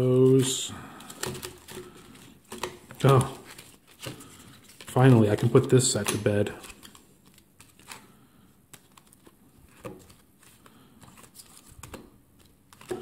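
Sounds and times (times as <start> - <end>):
plastic sleeves crinkling: 0.0 - 13.0.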